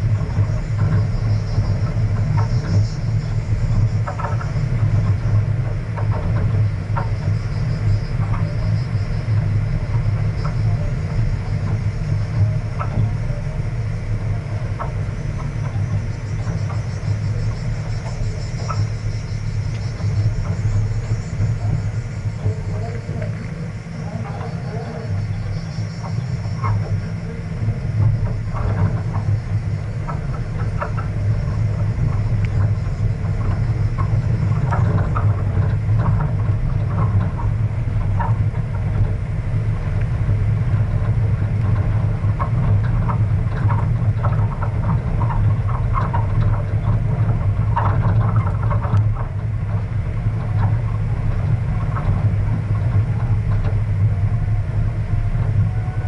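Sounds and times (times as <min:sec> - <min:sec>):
gravel knocks and rattles: 0:00.0 - 0:56.0
vehicle engine and road rumble: 0:00.0 - 0:56.0.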